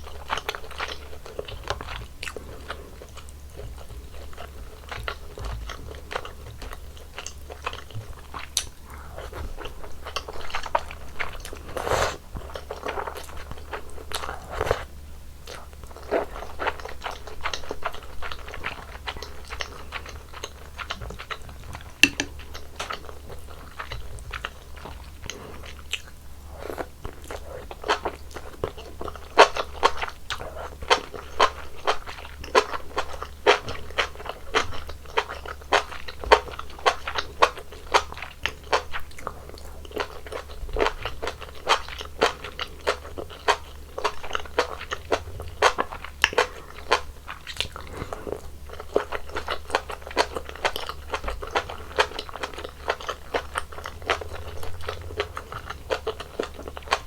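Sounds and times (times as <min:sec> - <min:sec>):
crunchy wet chewing: 0:00.0 - 0:57.0.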